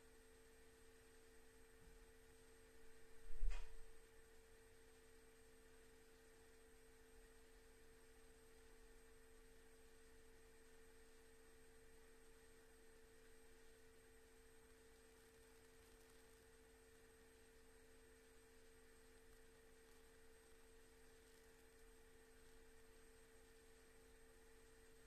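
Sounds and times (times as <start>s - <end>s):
steady high hum: 0.0s - 25.0s.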